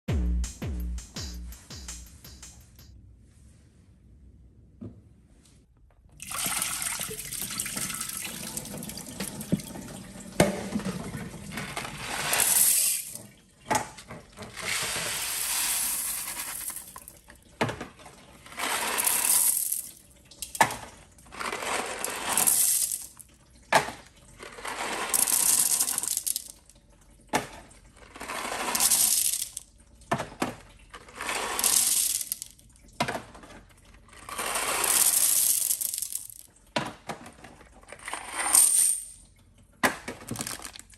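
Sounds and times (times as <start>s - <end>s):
objects splashing into toilet water: 6.1s - 40.9s.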